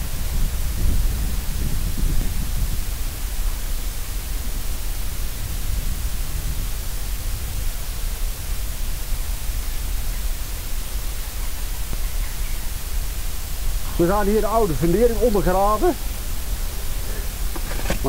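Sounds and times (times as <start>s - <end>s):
even hiss: 0.0s - 18.0s.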